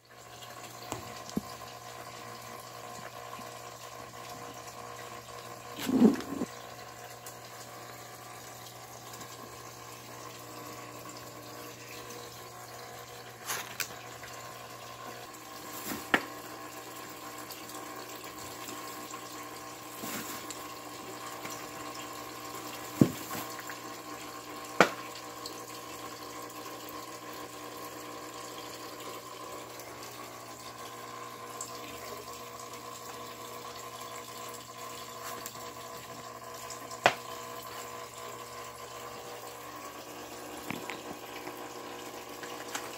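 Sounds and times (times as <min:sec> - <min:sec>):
pump hum with water rush: 0:00.0 - 0:42.9.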